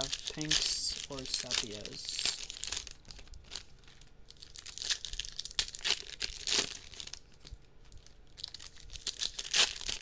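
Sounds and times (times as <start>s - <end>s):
wrappers crinkling and tearing: 0.0s - 10.0s.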